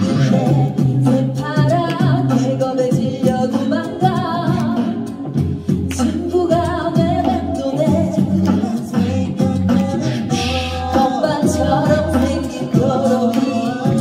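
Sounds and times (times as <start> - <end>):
a cappella group singing in harmony: 0.0 - 14.0
beatbox hits: 0.0 - 14.0
sung bass line: 0.0 - 14.0.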